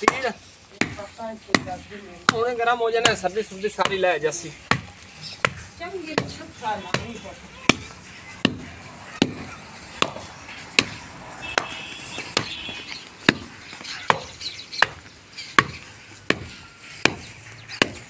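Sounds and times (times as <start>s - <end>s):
wooden pole pounding clay clods: 0.0s - 18.0s.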